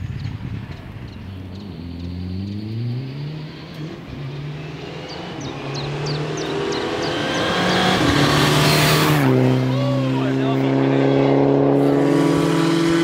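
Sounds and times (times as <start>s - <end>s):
rally car engines at full throttle: 0.0s - 13.0s.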